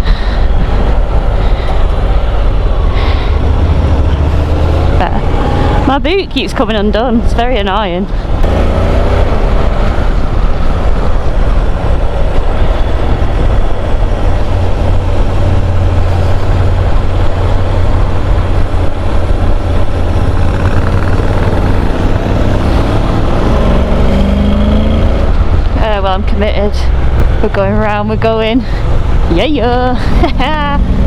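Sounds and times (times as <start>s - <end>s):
faint motorcycle engine: 0.0s - 31.0s
wind buffeting helmet microphone: 0.0s - 31.0s.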